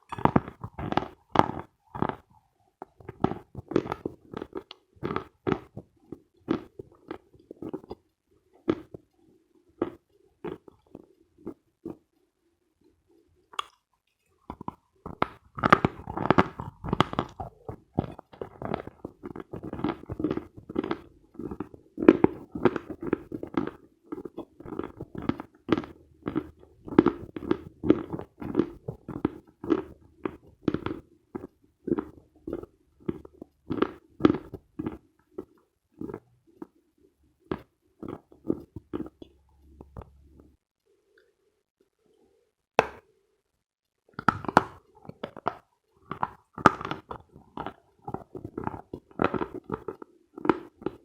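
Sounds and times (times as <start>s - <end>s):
person chewing chalk: 0.0s - 9.2s, 13.5s - 13.8s, 14.4s - 36.8s, 37.5s - 40.5s, 44.2s - 51.0s.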